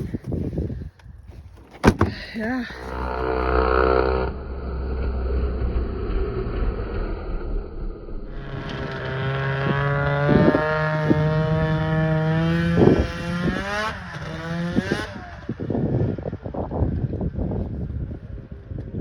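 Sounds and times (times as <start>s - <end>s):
gusty noise: 0.0s - 19.0s
snowmobile engine running hard: 2.3s - 19.0s.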